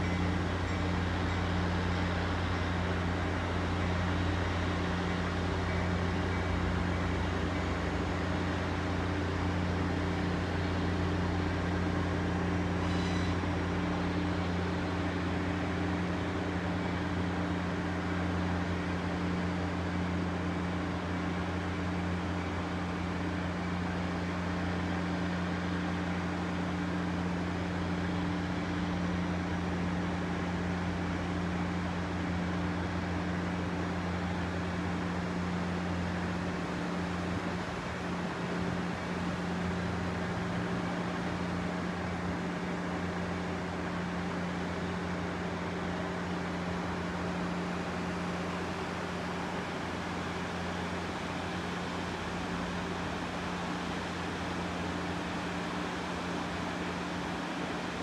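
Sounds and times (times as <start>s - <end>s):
diesel train drone: 0.0s - 58.0s.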